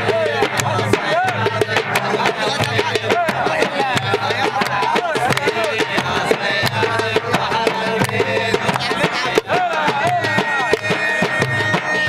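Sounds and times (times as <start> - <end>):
music with quick steady beat: 0.0 - 12.0.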